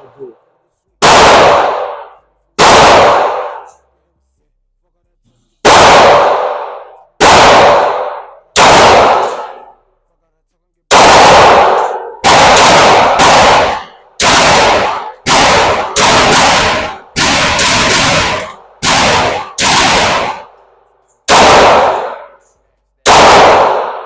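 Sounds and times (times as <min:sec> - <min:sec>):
pistol shots echoing: 0:01.0 - 0:03.8, 0:05.6 - 0:09.8, 0:10.9 - 0:24.0.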